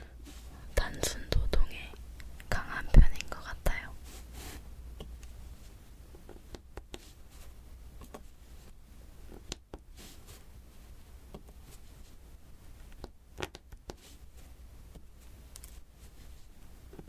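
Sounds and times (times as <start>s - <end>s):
soft rustling: 0.1s - 12.9s, 13.9s - 17.0s.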